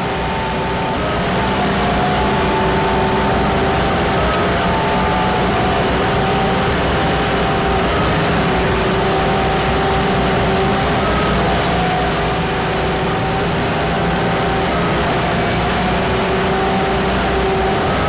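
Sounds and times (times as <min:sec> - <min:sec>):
heavy machinery engine drone: 0:00.0 - 0:18.0.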